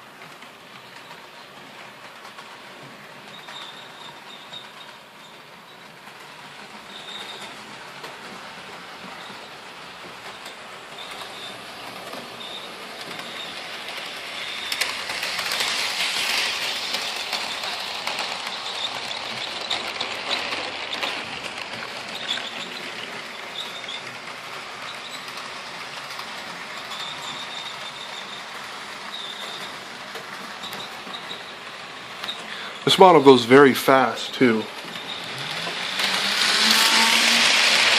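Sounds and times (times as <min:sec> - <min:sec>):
model train motor and wheels rumbling: 0:00.0 - 0:37.9
coach wheels squeaking: 0:03.2 - 0:37.9.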